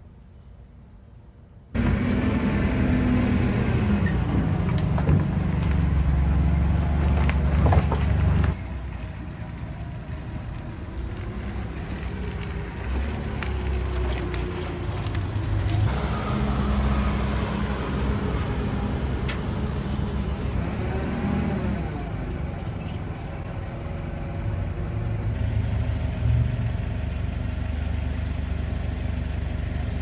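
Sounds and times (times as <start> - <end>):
motor vehicle rumbling: 1.8 - 30.0.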